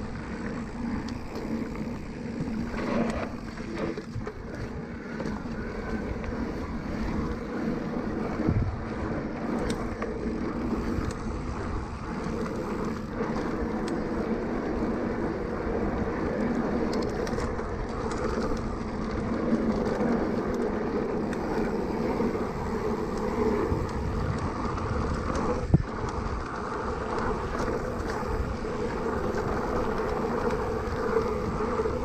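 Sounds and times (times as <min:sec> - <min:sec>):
wind noise: 0:00.0 - 0:32.0.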